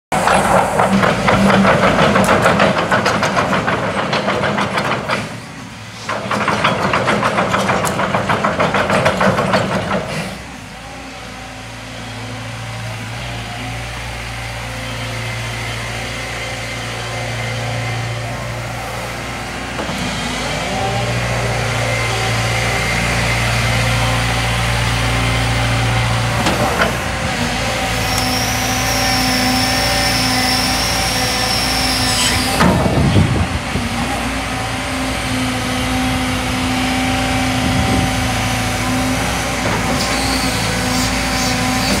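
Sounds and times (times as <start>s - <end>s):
excavator diesel engine running: 0.1s - 42.0s.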